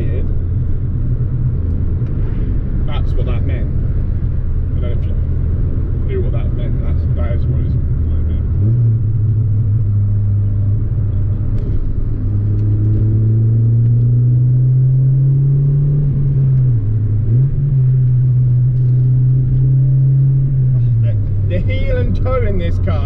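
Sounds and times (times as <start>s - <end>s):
car engine pulling: 0.0s - 23.0s.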